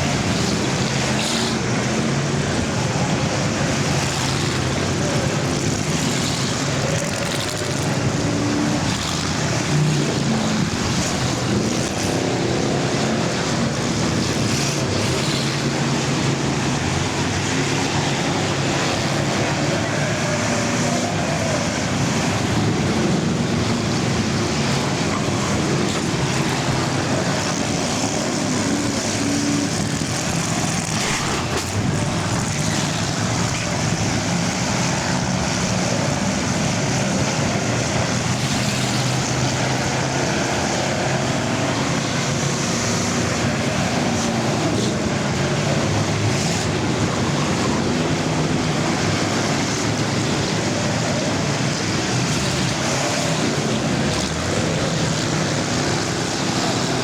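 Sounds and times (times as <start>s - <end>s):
racing car engines: 0.0s - 57.0s.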